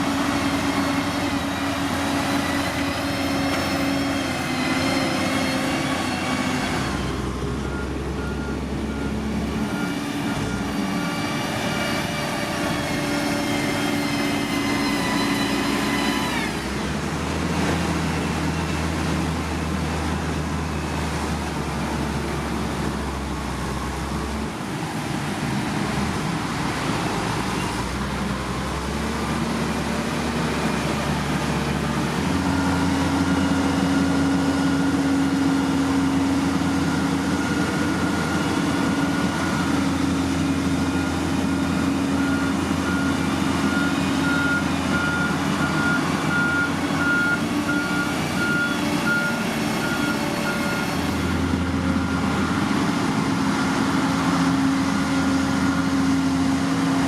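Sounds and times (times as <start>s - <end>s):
diesel construction machinery running: 0.0s - 57.0s.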